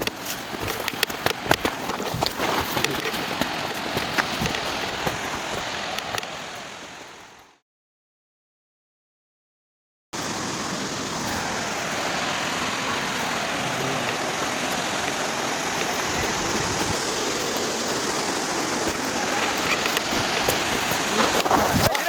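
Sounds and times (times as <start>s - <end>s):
waterfall rushing: 0.0s - 7.1s, 10.2s - 22.0s.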